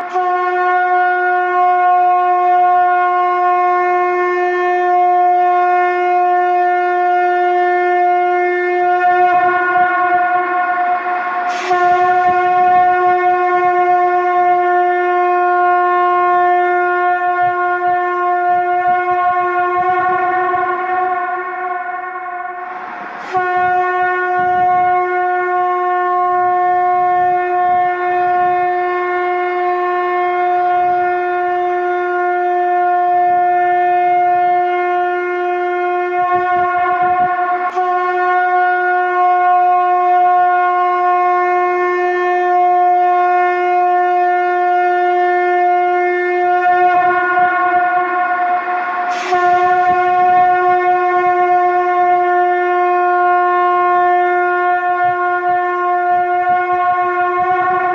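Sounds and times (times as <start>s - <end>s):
conch shell blasts: 0.0s - 57.9s.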